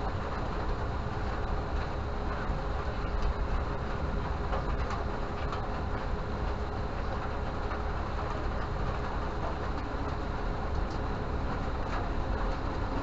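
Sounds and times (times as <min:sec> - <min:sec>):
faint constant hum: 0:00.0 - 0:13.0
low mechanical rumble: 0:00.0 - 0:13.0.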